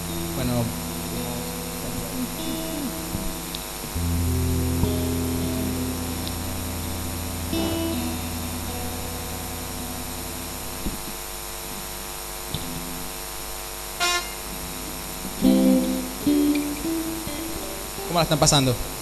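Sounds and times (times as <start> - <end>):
soft keyboard notes and chords: 0.0 - 11.2, 14.0 - 19.0
mains hum: 0.0 - 19.0.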